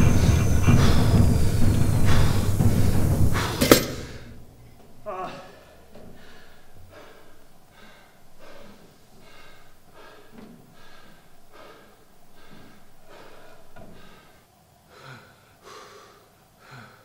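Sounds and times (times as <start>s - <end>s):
man panting and gasping: 0.0s - 4.4s, 5.0s - 17.0s.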